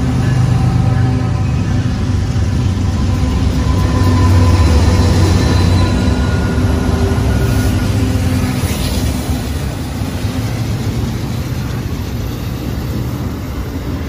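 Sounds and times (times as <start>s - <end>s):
freight cars rolling: 0.0s - 14.0s
locomotive engine drone: 0.0s - 14.0s.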